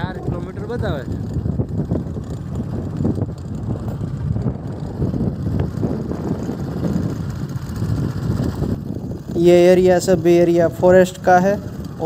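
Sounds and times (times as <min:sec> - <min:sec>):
vehicle rumble: 0:00.0 - 0:12.0
wind buffeting microphone: 0:00.0 - 0:12.0.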